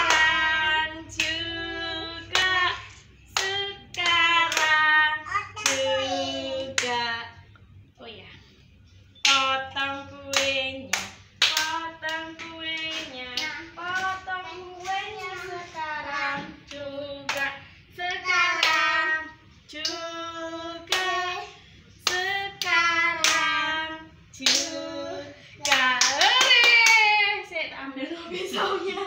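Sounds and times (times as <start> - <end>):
people singing: 0.0 - 7.4, 9.2 - 26.1.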